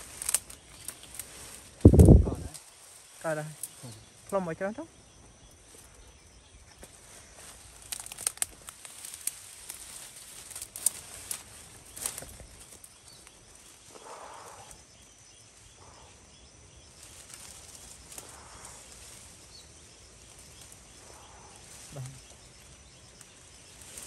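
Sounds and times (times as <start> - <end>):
dry twigs rustling and cracking: 0.0 - 4.5, 5.2 - 15.8, 16.8 - 24.0.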